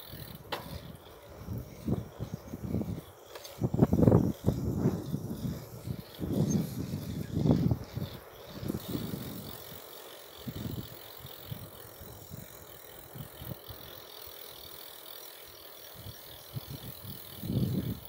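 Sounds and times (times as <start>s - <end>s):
wind buffeting microphone: 0.0s - 14.0s, 16.0s - 18.0s
bicycle freewheel ticking: 0.0s - 18.0s.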